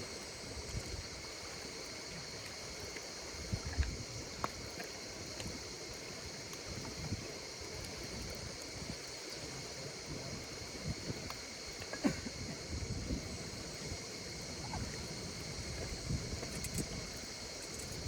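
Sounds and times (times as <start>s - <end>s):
campfire crackling and popping: 0.0s - 18.0s
insects singing: 0.0s - 18.0s.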